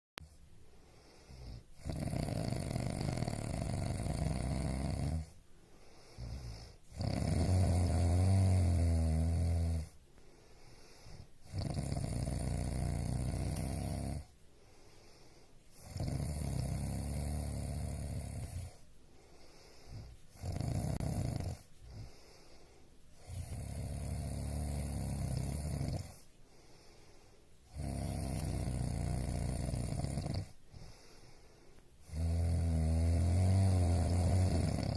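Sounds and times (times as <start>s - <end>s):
quiet breaths: 0.2s - 34.9s
person snoring heavily: 1.0s - 10.0s, 10.7s - 14.3s, 15.0s - 18.8s, 19.4s - 22.6s, 23.2s - 34.9s.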